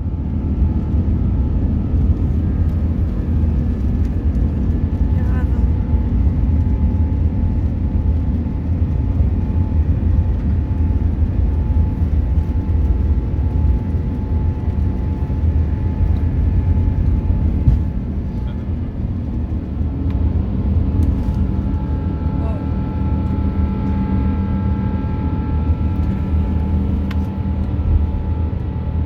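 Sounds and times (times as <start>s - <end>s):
aircraft engines and airflow rumble: 0.0s - 29.0s.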